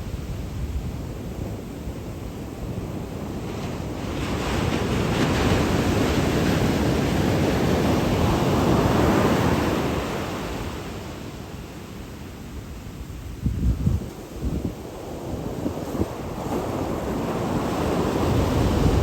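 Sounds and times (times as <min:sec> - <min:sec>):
sea waves surging onto shore: 0:00.0 - 0:13.2, 0:14.1 - 0:19.0.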